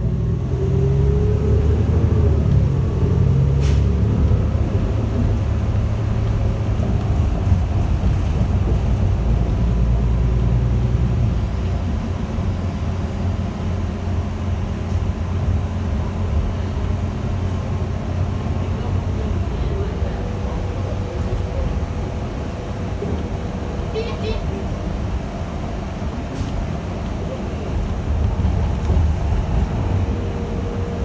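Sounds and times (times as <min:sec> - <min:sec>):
bus cabin rumble: 0:00.0 - 0:31.0.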